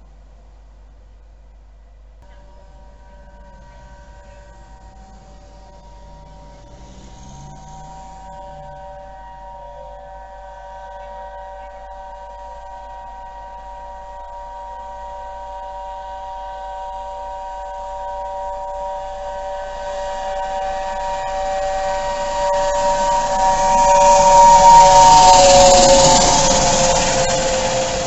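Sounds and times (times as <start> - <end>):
passing train hiss and rumble: 2.2 - 28.0
steam whistle chord: 2.2 - 28.0.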